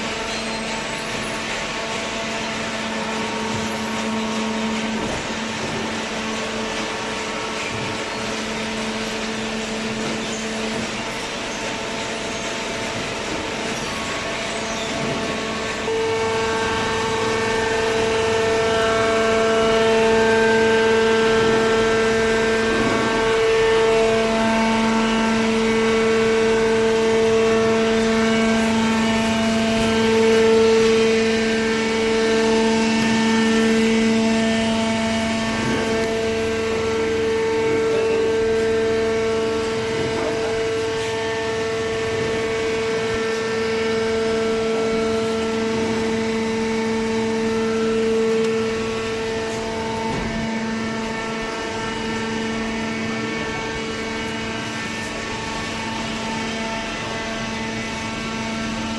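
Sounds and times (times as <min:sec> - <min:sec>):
hydraulic pump motor humming: 0:00.0 - 0:58.9.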